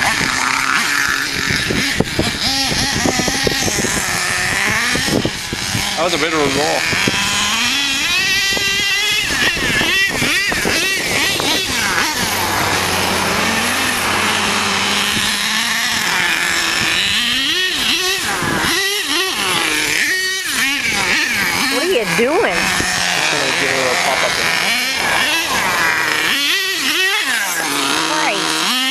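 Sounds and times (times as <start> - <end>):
nitro engine revving: 0.0 - 28.9.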